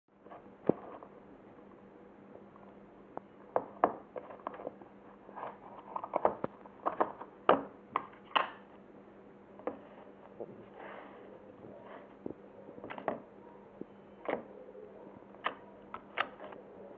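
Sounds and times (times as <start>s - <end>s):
faint steady hum: 0.1s - 16.9s.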